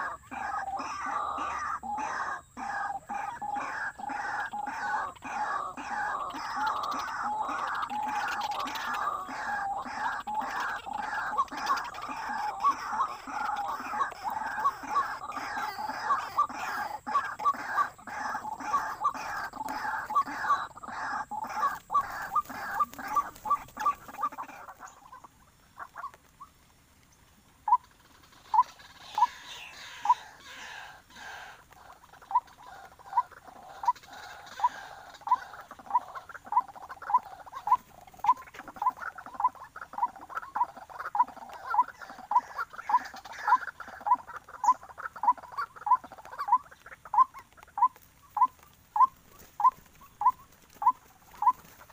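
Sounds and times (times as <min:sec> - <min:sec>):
waterhen calls: 0:00.0 - 0:51.9.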